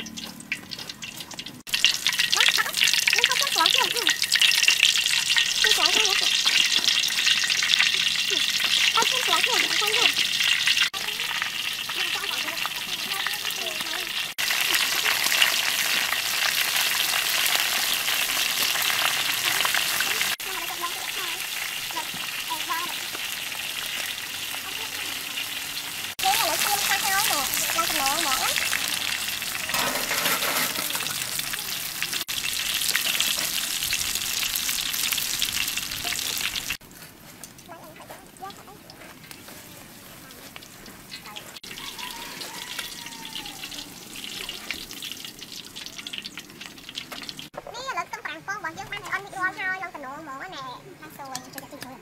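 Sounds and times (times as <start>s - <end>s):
onion rings deep-frying in oil: 0.0s - 52.0s.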